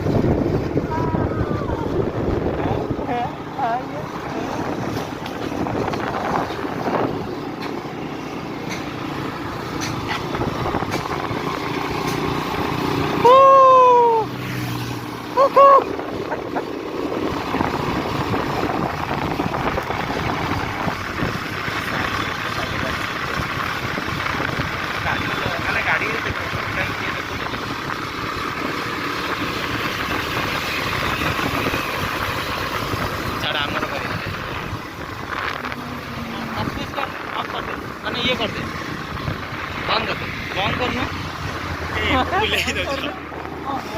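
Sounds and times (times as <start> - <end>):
vehicle engine and road noise: 0.0 - 43.9.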